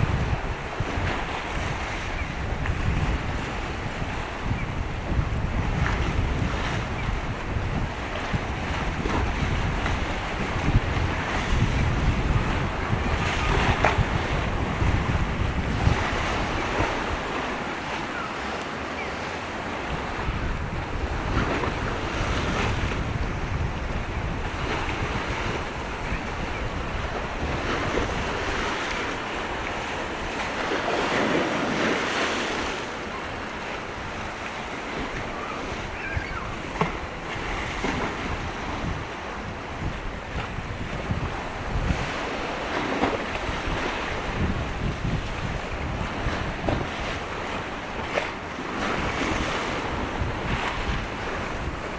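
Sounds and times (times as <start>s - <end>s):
gusty wind on microphone: 0.0s - 18.3s, 19.2s - 51.9s.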